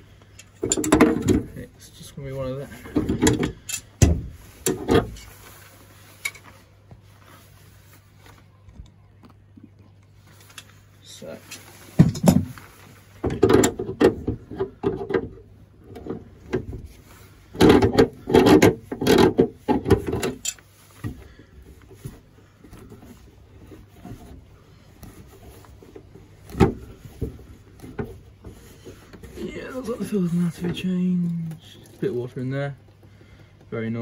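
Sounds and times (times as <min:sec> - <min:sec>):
fiddling by hand: 0:02.4 - 0:32.2.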